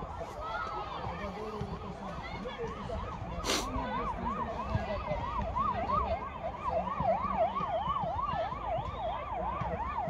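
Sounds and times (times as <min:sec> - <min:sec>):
wailing siren: 0:00.0 - 0:10.0.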